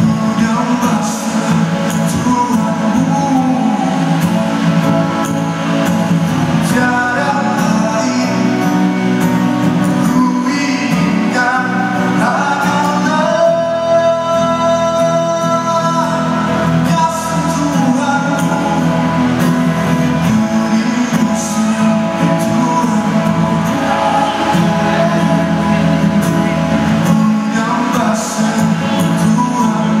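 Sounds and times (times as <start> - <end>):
man singing into a microphone: 0.0 - 5.7, 6.4 - 30.0
acoustic guitar: 0.0 - 30.0.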